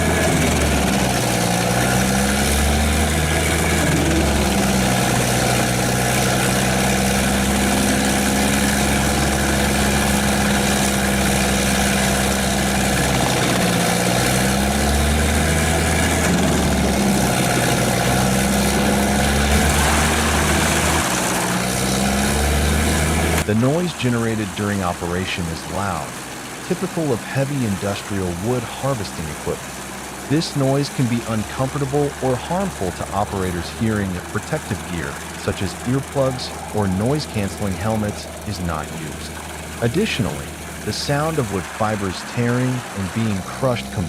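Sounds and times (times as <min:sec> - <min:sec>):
wood chipper running: 0:00.0 - 0:44.0.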